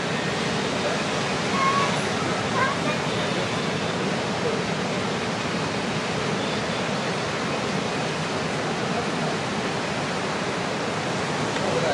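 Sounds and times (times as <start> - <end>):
ocean surf breaking: 0.0 - 11.9.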